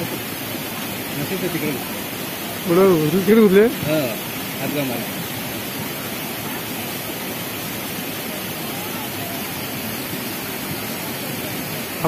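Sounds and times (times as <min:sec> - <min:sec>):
water rushing down hillside: 0:00.0 - 0:12.0.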